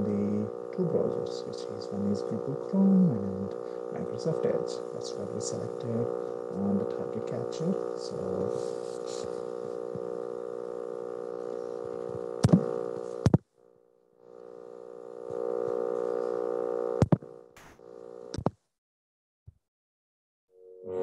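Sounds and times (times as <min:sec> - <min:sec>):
electrical hum: 0:00.0 - 0:18.4.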